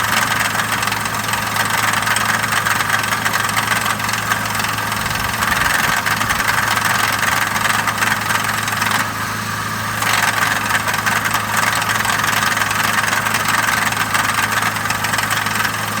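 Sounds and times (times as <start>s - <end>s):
engine idling: 0.0s - 16.0s
fast engine ticking: 0.0s - 16.0s.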